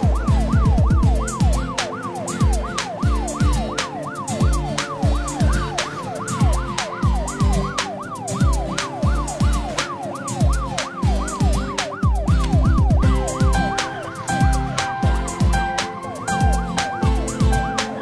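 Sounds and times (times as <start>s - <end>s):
music with bass beat: 0.0s - 18.0s
police siren yelping: 0.0s - 18.0s.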